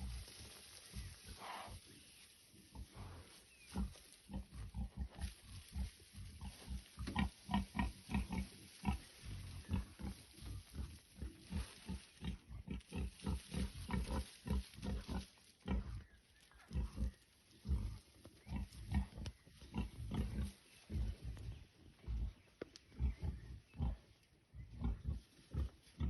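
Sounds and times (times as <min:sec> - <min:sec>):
wild boar grunting: 0:02.7 - 0:26.0.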